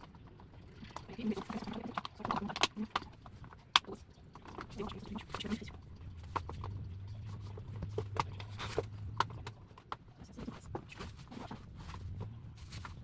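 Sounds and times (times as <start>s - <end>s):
low steady hum: 0.0s - 13.0s
plastic fan parts clicking: 0.0s - 13.0s.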